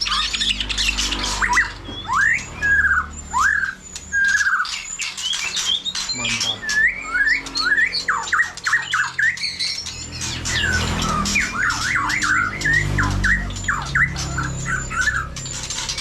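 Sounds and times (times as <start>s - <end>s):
bird singing whistled notes: 0.0s - 16.0s.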